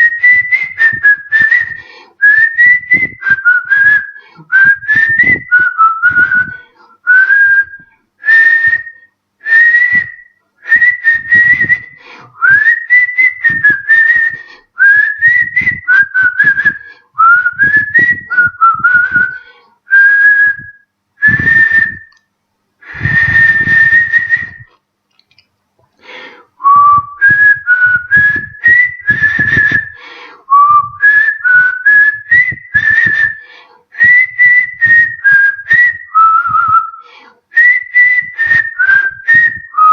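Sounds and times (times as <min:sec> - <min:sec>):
man whistling a melody: 0:00.0 - 0:24.8, 0:26.3 - 0:39.9.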